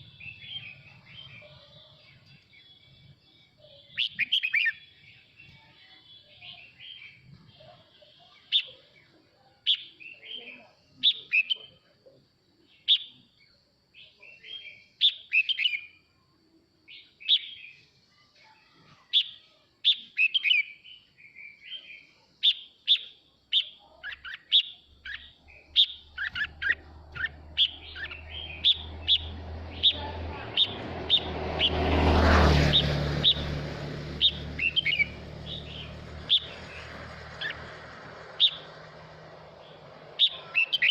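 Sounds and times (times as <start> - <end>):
bird chirping and warbling: 0.0 - 3.1, 3.7 - 11.8, 14.0 - 16.0, 19.1 - 40.9.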